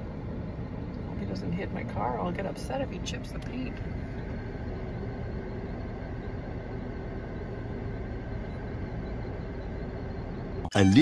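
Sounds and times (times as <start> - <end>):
car engine rumble: 0.0 - 11.0
faint even hum: 0.0 - 11.0.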